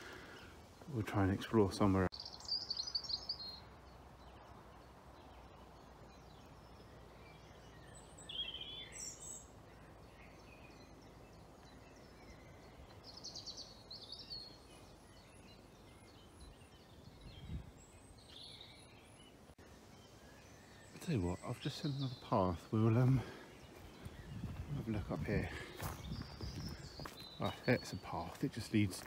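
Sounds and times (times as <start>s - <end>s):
birds chirping and trilling: 0.0s - 29.0s
faint outdoor background noise: 0.0s - 29.0s.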